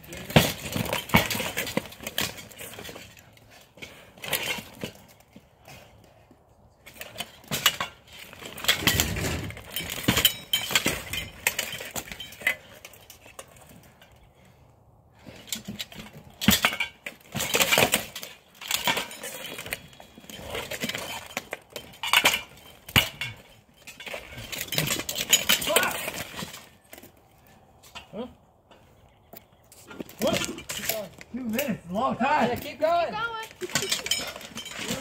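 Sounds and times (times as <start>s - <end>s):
plate armor clanking and scraping: 0.0s - 14.6s, 15.2s - 28.8s, 29.8s - 35.0s.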